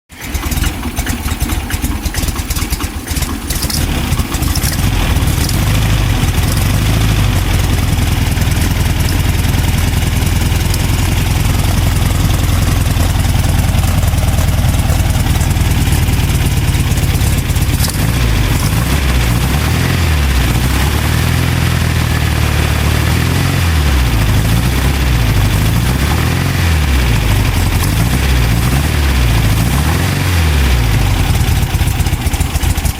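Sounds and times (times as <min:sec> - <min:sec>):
car engine running: 0:00.2 - 0:32.9.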